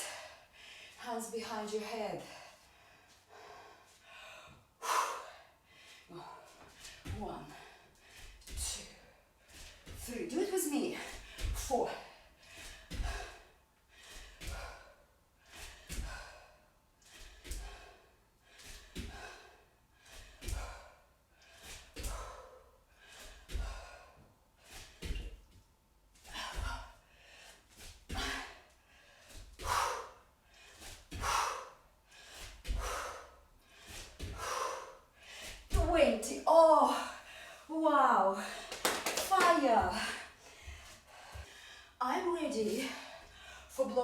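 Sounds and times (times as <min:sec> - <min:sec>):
hard rhythmic breathing: 0:02.1 - 0:44.0.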